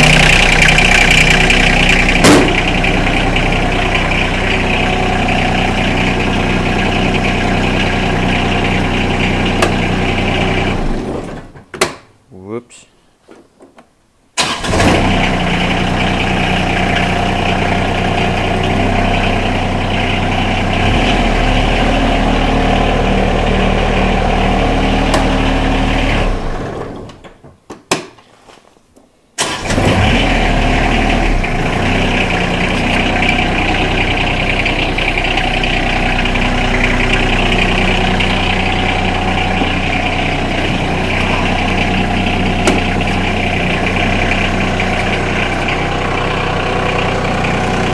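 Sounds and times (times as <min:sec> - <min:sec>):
diesel engine winding down: 0:00.0 - 0:11.2, 0:14.4 - 0:27.0, 0:29.4 - 0:47.9
diesel engine starting and running: 0:00.0 - 0:11.5, 0:14.4 - 0:27.2, 0:29.4 - 0:47.9.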